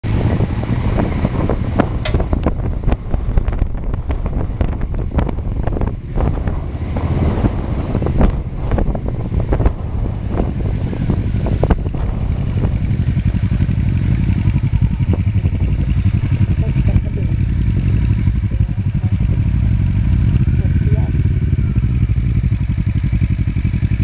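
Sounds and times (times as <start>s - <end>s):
air buffeting microphone: 0.0s - 21.1s.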